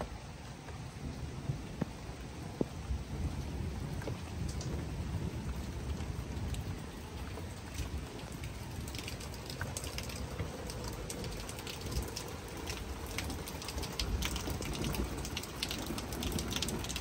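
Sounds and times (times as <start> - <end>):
rain pouring: 0.0 - 17.0
raindrops tapping: 0.0 - 17.0.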